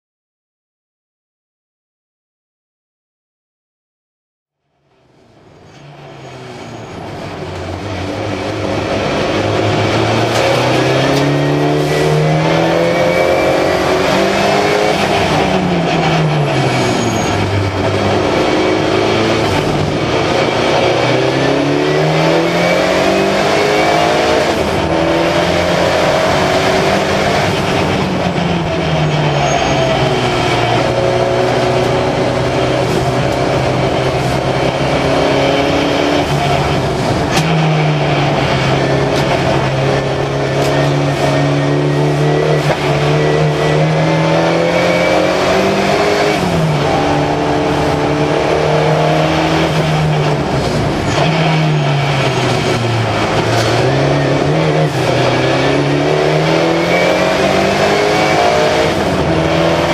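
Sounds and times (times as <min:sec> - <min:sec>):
race car engine revving: 0:05.8 - 0:59.9.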